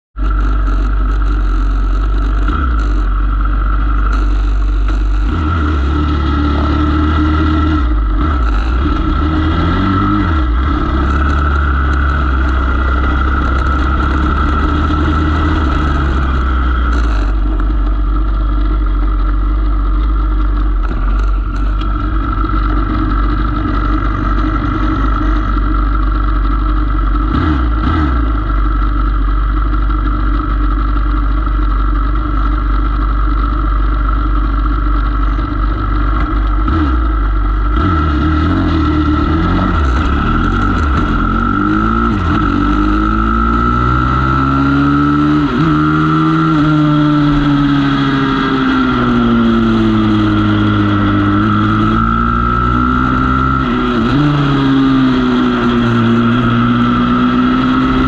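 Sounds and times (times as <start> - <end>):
motorbike engines revving: 0.2 - 58.0.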